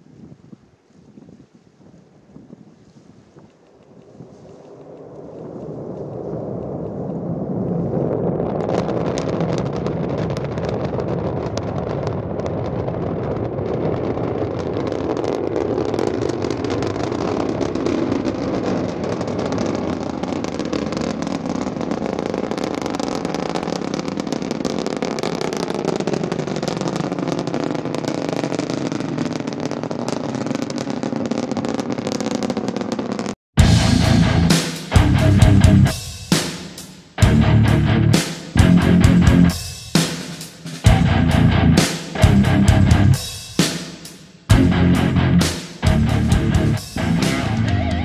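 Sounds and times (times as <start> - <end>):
rocket engines crackling rumble: 2.2 - 48.0.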